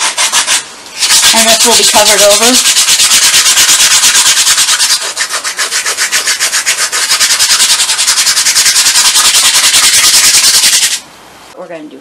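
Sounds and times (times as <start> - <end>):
nail file scratching: 0.0 - 11.0.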